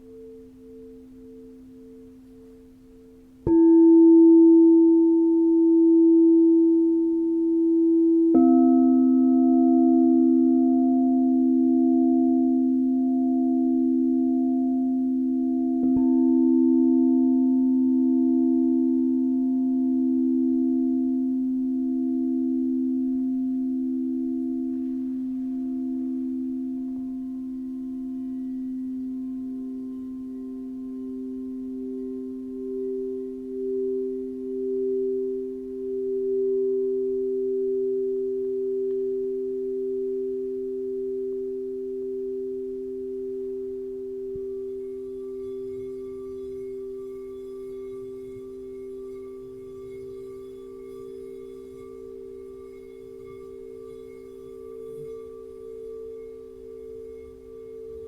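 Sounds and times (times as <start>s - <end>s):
crystal singing bowls ringing: 0.0s - 58.0s.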